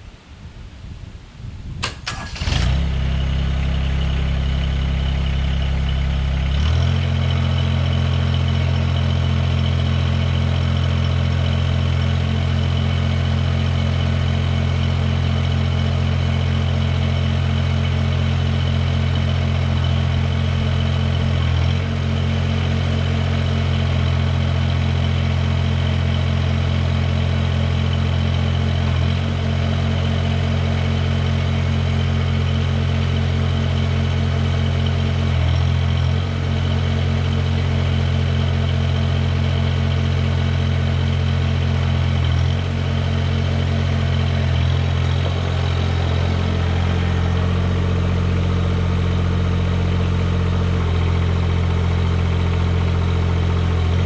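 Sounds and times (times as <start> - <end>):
tractor diesel engine running: 1.8 - 54.0.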